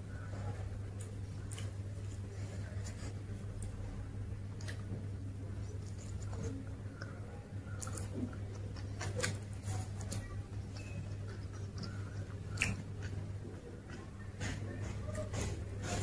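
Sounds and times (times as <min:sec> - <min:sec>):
person chewing with wet clicks: 0:00.5 - 0:16.0.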